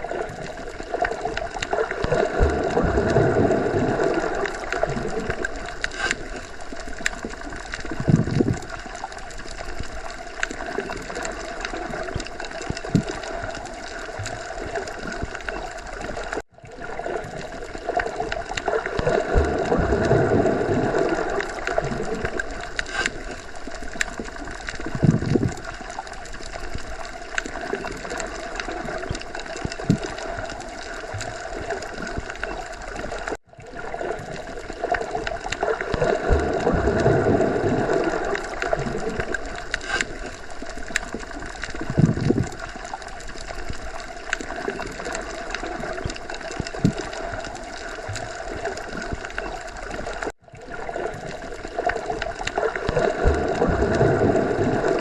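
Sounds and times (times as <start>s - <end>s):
underwater gurgling and bubbling: 0.0s - 55.0s
underwater watery wash: 0.0s - 55.0s.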